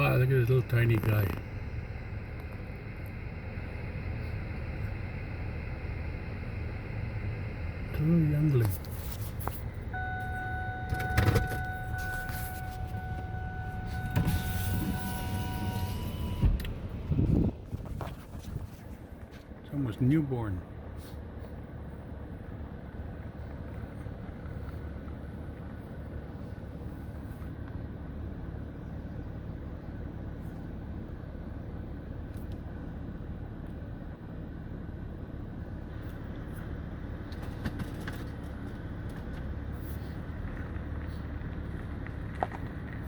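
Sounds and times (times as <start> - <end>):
vehicle rumble from cabin: 0.0 - 43.0.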